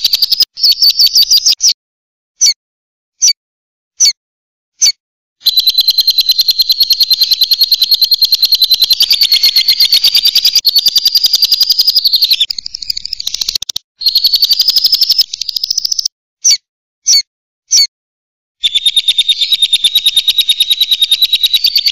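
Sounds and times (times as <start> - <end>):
lovebird chirping: 0.0 - 1.8, 4.8 - 17.9, 18.6 - 21.9.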